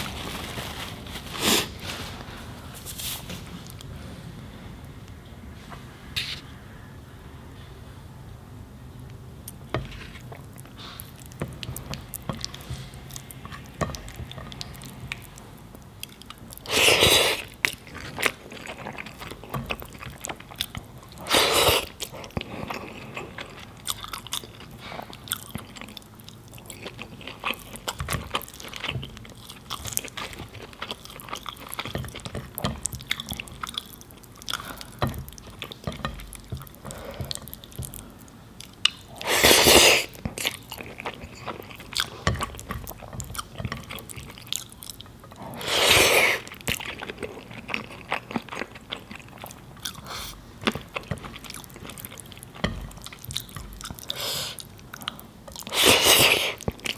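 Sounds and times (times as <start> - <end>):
chewing and mouth smacks: 10.3 - 56.9.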